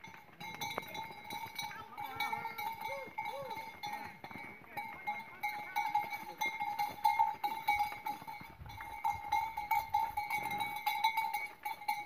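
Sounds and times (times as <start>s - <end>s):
cowbell jangling: 0.0s - 12.0s.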